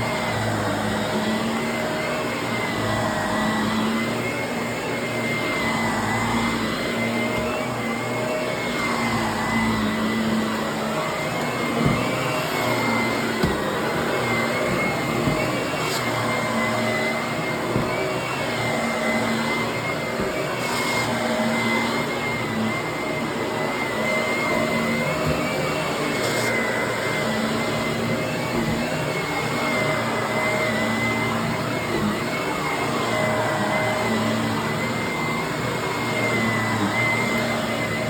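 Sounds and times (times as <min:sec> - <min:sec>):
vacuum cleaner whining: 0:00.0 - 0:38.0.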